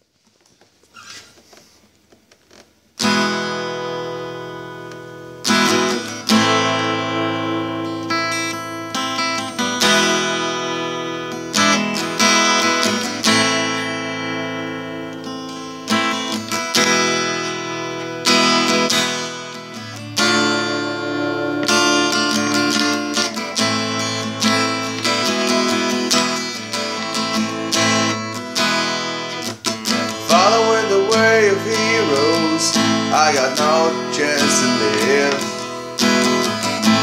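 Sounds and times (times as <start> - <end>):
acoustic guitar strumming: 3.0 - 37.0.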